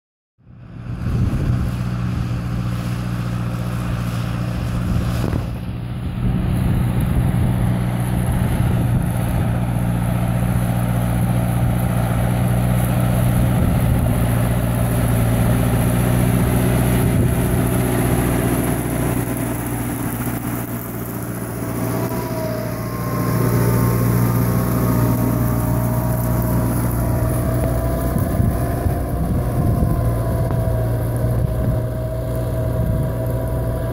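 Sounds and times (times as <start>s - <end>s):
tractor diesel engine under load: 0.4s - 33.9s.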